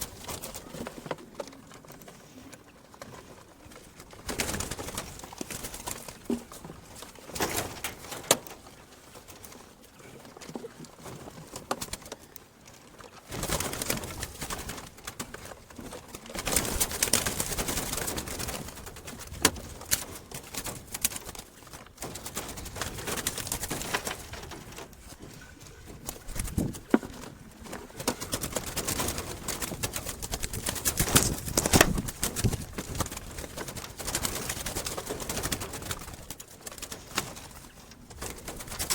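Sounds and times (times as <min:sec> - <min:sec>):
rustling noise: 0:00.0 - 0:38.9.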